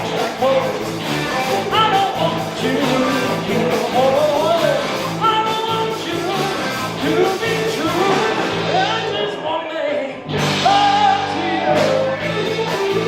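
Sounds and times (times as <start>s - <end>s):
repeating bass riff: 0.0s - 9.6s, 10.2s - 13.0s
rock band playing: 0.0s - 13.0s
sliding bending lead guitar: 0.0s - 13.0s.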